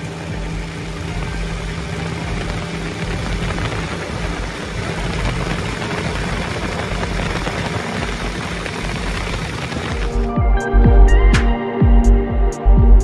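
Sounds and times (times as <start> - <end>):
rush of noise: 0.0 - 10.4
motorcycle engine running: 0.0 - 11.1
electronic music: 0.0 - 13.0.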